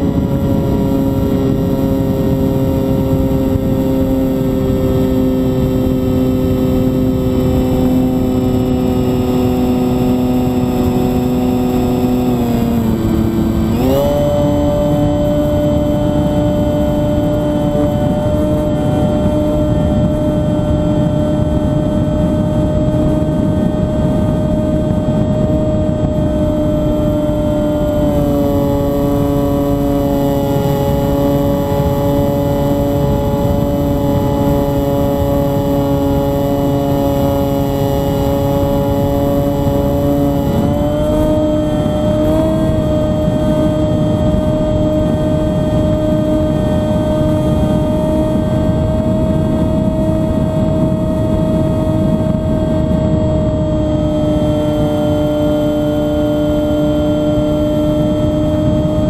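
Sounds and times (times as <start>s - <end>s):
model aircraft motor droning: 0.0s - 59.0s
wind on microphone: 0.0s - 59.0s.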